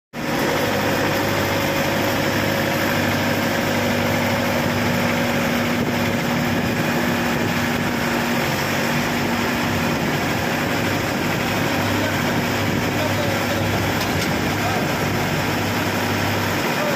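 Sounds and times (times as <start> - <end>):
combine harvester diesel engine: 0.2 - 16.9.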